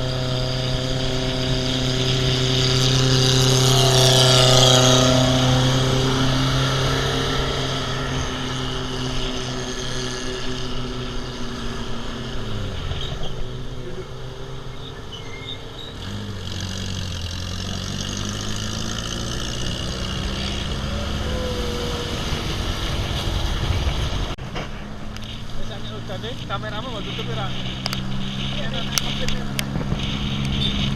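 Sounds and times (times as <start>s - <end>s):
off-road vehicle engine running: 0.0s - 30.9s.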